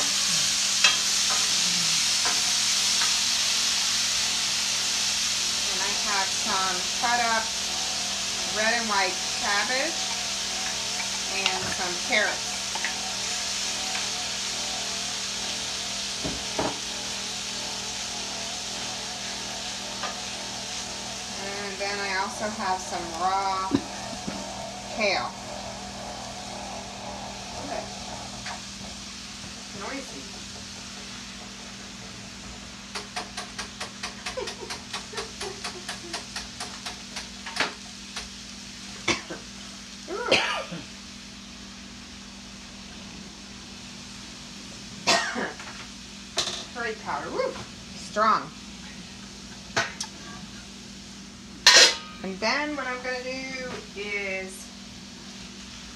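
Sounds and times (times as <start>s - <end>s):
steady low hum: 0.0s - 55.9s
vegetables sizzling in oil: 0.0s - 55.9s.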